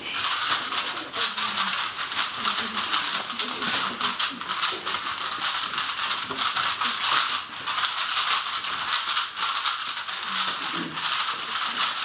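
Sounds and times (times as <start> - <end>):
plastic puzzle cubes clicking: 0.1 - 12.0.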